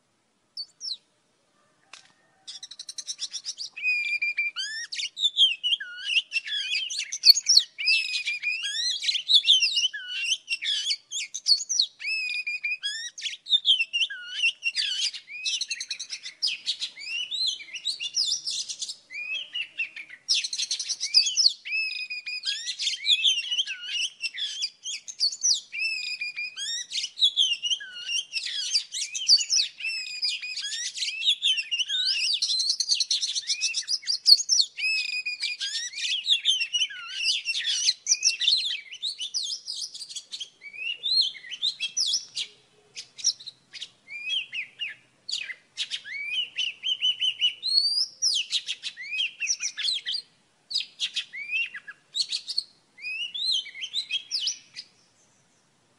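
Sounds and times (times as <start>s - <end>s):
bird singing whistled notes: 0.6s - 1.0s, 2.3s - 55.7s.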